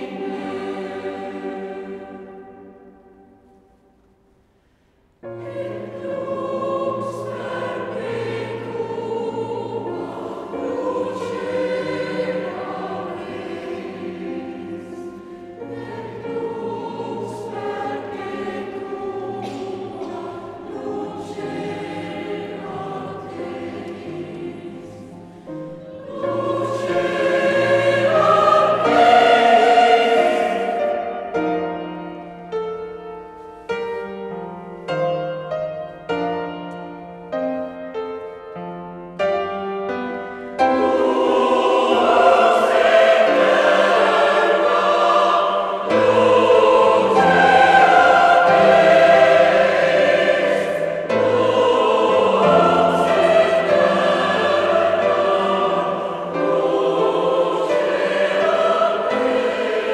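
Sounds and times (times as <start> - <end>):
mixed choir singing: 0.0 - 3.8, 5.2 - 33.0, 40.0 - 59.9.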